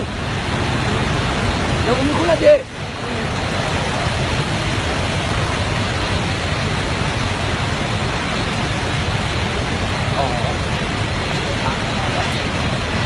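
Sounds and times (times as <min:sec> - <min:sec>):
flood torrent rushing: 0:00.0 - 0:13.0.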